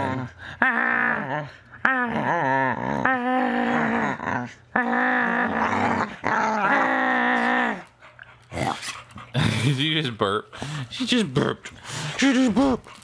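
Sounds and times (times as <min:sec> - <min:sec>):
dog play-growling: 0:00.0 - 0:09.9, 0:10.5 - 0:13.0.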